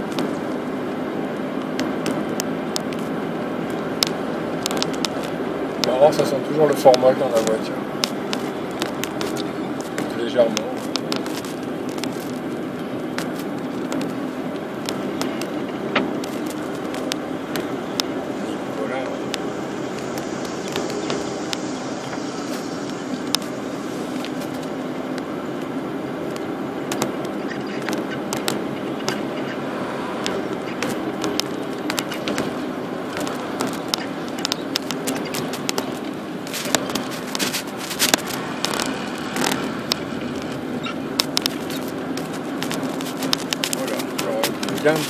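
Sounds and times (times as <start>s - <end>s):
car engine and road noise: 0.0s - 45.0s
small clicks and crackles: 1.3s - 45.0s.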